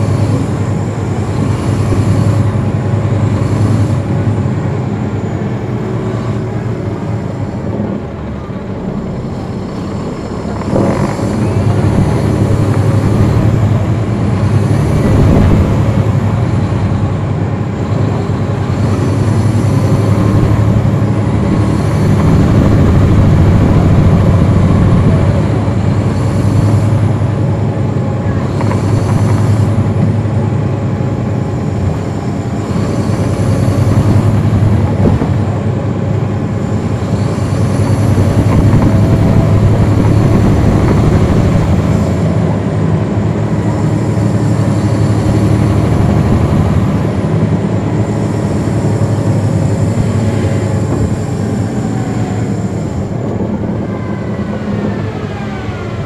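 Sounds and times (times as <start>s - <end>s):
bus diesel engine accelerating: 0.0s - 56.0s.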